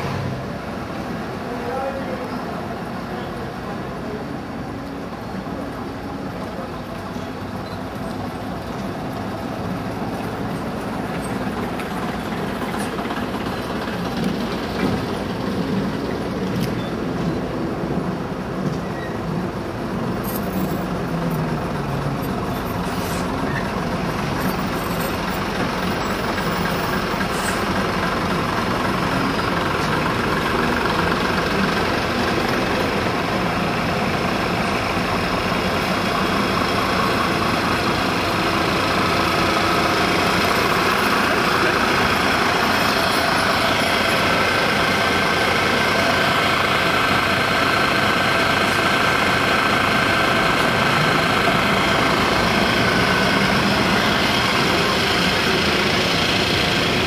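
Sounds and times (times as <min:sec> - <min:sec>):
car traffic: 0:00.0 - 0:57.0
diesel bus engines: 0:00.0 - 0:57.0.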